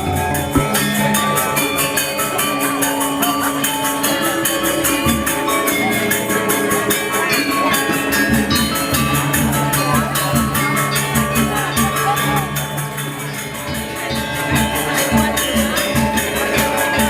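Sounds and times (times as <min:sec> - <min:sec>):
metallophone tones: 0:00.0 - 0:17.0
small cymbals clashing: 0:00.0 - 0:17.0.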